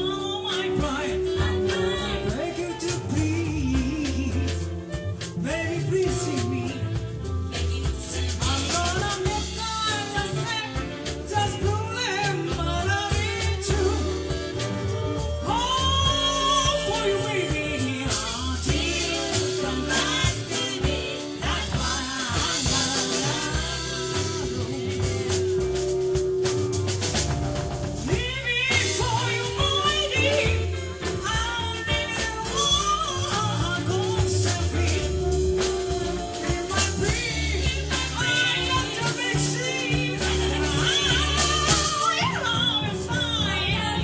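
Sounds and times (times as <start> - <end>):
lead vocal singing: 0.0 - 44.0
live soul band playing: 0.0 - 44.0.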